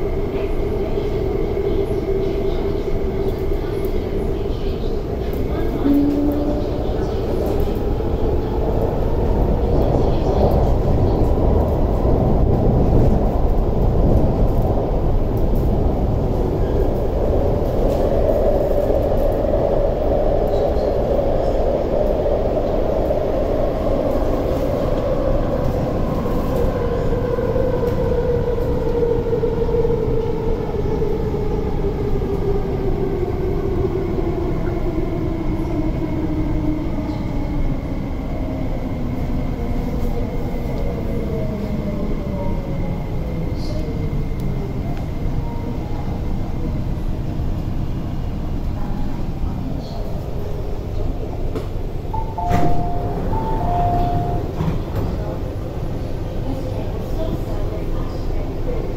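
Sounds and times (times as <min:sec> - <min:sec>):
wheels rumbling on rail: 0:00.0 - 0:58.9.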